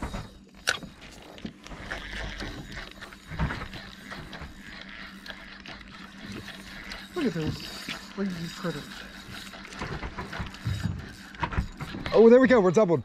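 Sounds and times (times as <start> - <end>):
fishing reel ticking: 0.0 - 13.0.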